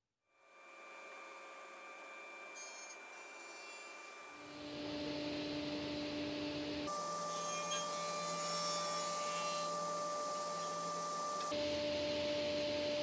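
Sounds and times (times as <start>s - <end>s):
table saw cutting wood: 0.6s - 11.8s.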